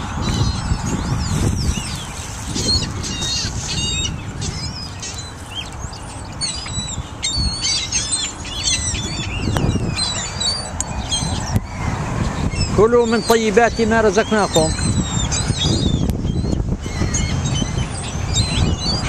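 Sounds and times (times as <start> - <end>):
bird calls: 0.0 - 19.0.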